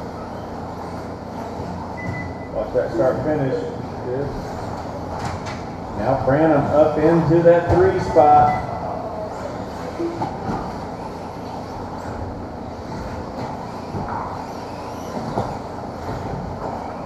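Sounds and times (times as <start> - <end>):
rc car motors whirring: 0.0 - 7.5, 8.1 - 17.0.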